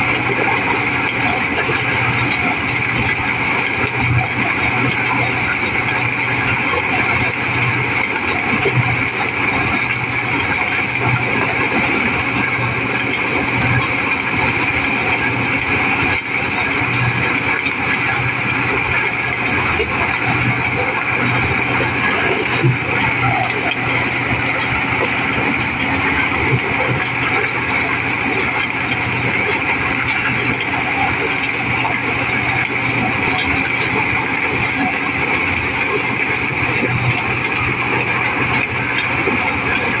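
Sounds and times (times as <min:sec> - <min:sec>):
corn sheller machine drone: 0:00.0 - 0:40.0.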